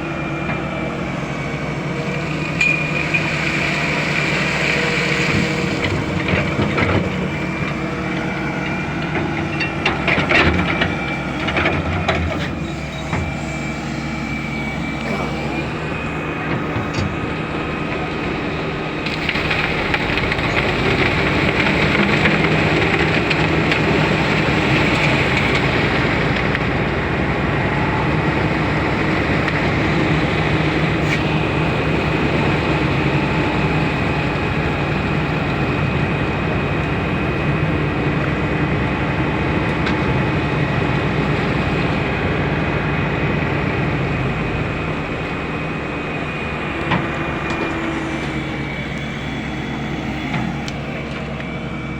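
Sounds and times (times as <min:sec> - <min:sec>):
diesel engines running: 0:00.0 - 0:51.9.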